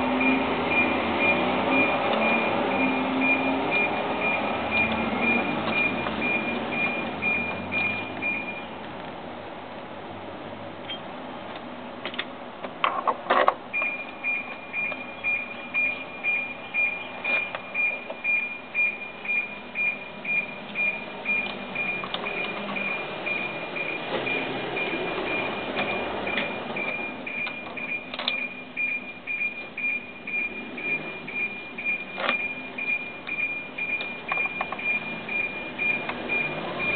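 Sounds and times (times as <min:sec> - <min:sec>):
high electronic beeps: 0:00.0 - 0:08.7, 0:13.7 - 0:36.9.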